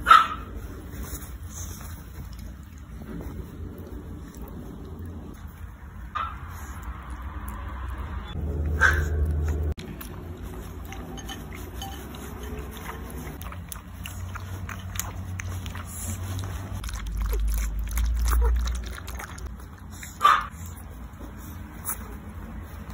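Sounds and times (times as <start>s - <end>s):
puppy lapping milk: 0.7s - 22.9s.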